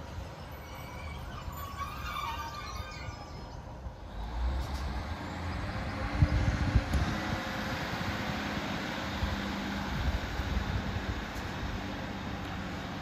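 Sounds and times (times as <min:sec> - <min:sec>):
diesel engine drone: 0:00.0 - 0:13.0
train wheels rumbling on rails: 0:00.0 - 0:13.0.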